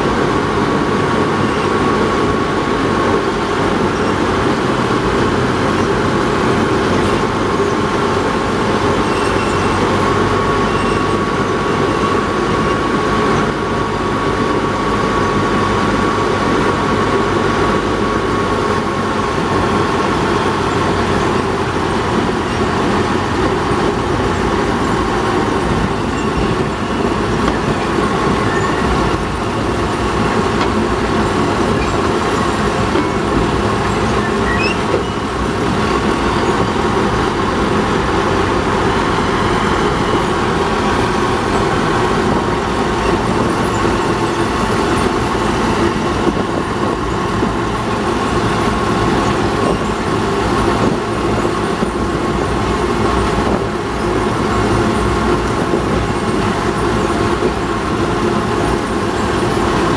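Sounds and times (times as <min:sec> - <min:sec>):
diesel locomotive engine: 0:00.0 - 0:59.9
wheels rumbling on rails: 0:00.0 - 0:59.9.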